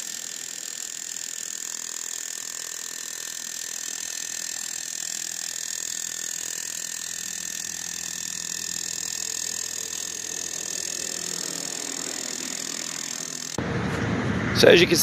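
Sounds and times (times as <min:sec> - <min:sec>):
rotary hammer hammering rod: 0:00.0 - 0:13.6.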